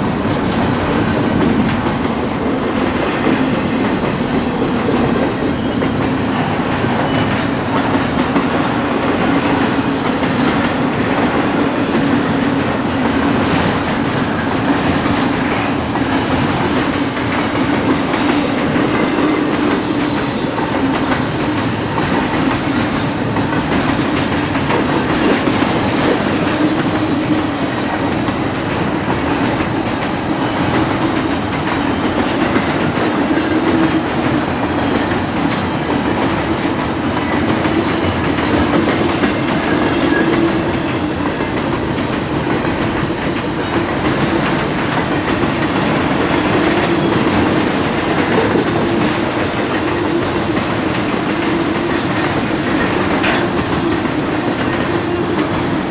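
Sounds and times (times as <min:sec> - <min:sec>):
freight train wheels clattering: 0:00.0 - 0:55.9
train rumble: 0:00.0 - 0:55.9.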